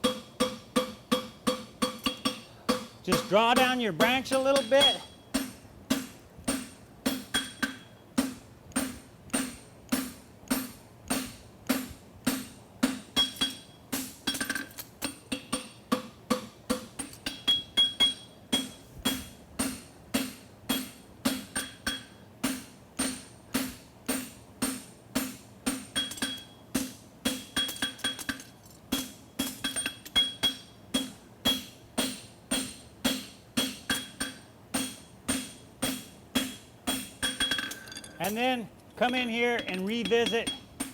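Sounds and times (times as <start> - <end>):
hammer striking hot steel on anvil: 0.0 - 40.9.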